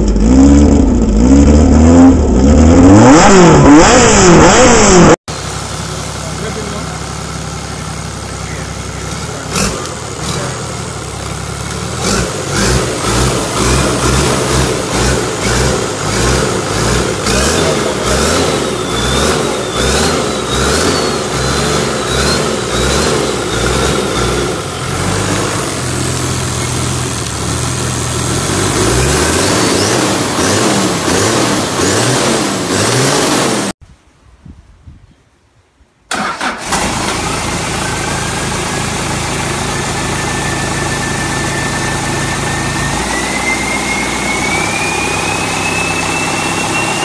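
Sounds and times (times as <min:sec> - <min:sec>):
engine idling and revving: 0:00.0 - 0:33.8, 0:36.1 - 0:47.0.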